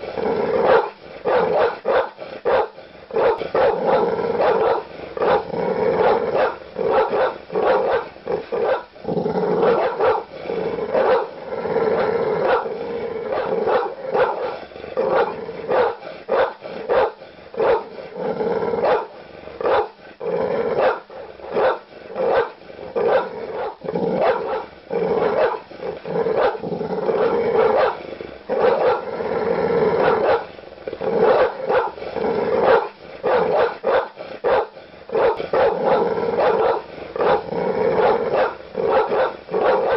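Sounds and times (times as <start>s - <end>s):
large dog barking aggressively: 0.0s - 39.9s.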